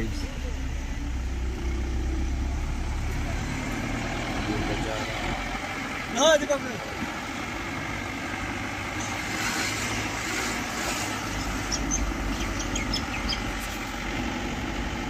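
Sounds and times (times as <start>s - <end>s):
car engine running: 0.0s - 15.0s
road and wind noise: 0.0s - 15.0s.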